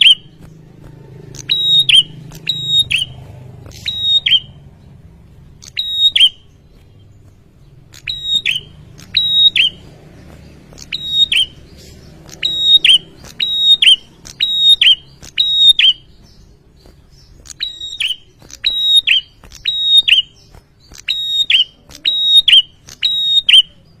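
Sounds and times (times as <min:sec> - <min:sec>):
bird singing sharp high notes: 0:00.0 - 0:00.6, 0:01.4 - 0:24.0.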